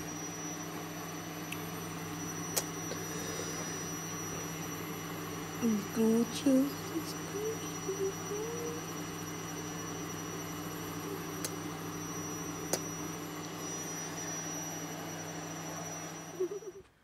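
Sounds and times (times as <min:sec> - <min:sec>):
electrical hum: 0:00.0 - 0:17.0
faint high whine: 0:00.0 - 0:17.0.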